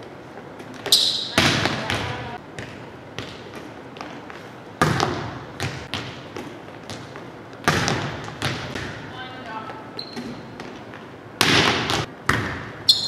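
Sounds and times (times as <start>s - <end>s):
volleyballs hitting gym floor: 0.6s - 13.0s.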